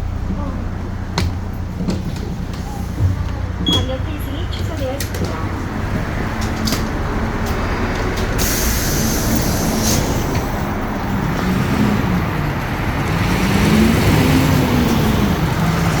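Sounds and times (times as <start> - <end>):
bus diesel engine pulling away: 0.0 - 16.0
road and traffic noise: 0.0 - 16.0.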